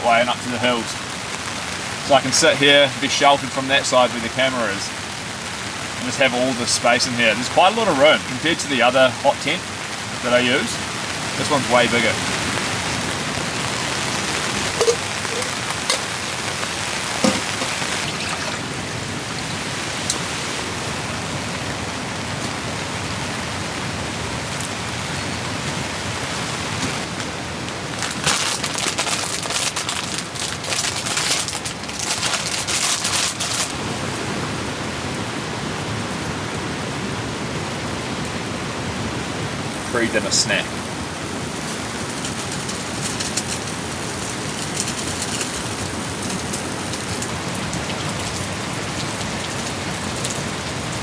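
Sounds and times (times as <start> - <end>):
rain pattering on tent fabric: 0.0 - 51.0.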